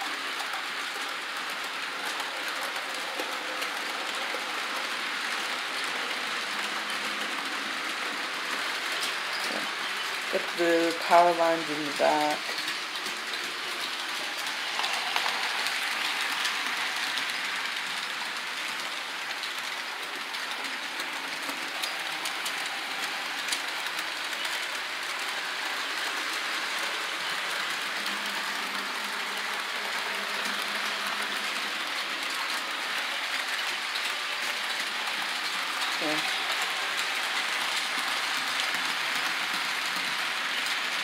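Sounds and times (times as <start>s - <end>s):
model train wheels rattling: 0.0s - 41.0s.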